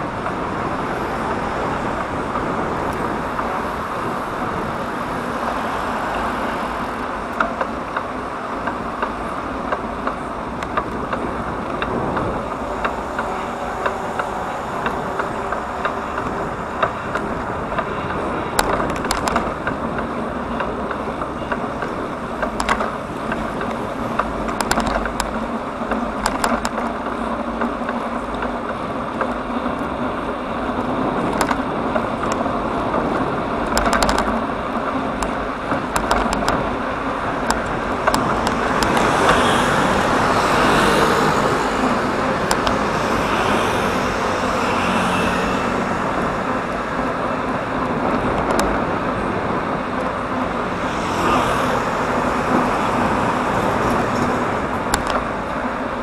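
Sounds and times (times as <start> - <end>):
bicycle tyres on road: 0.0 - 56.0
wind noise: 0.0 - 56.0
sharp clicks and rattles: 6.8 - 43.4, 45.6 - 51.1, 51.8 - 56.0.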